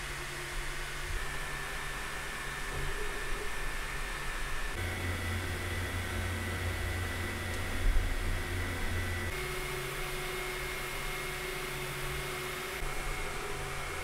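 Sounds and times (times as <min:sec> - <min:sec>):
cooling fans whirring: 0:00.0 - 0:14.0
faint motor tones: 0:00.0 - 0:14.0.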